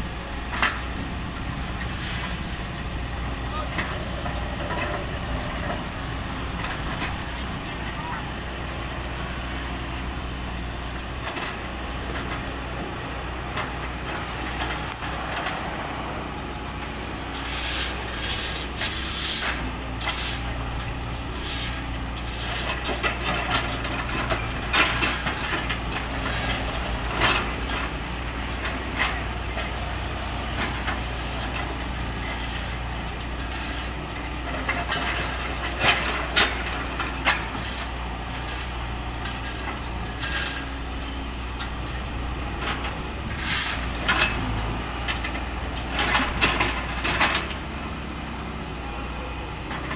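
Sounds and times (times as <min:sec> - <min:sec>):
road repair scrapes and knocks: 0:00.0 - 0:07.8, 0:09.2 - 0:49.9
heavy engine running: 0:00.0 - 0:49.9.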